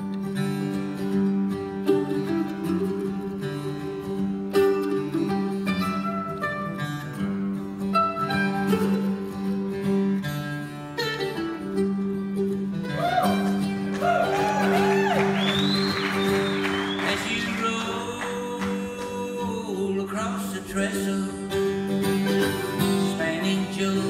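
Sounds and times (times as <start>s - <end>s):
acoustic guitar chords: 0.0s - 24.0s
mandolin lead line: 0.0s - 24.0s.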